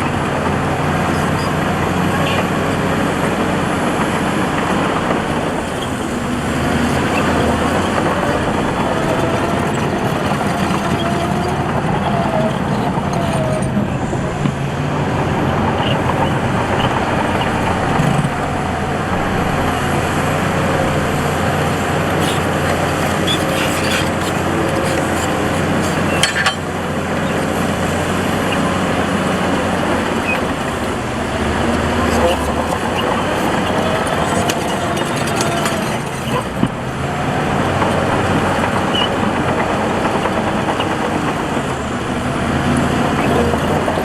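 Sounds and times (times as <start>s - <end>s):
diesel earthmoving machinery running: 0.0s - 44.0s.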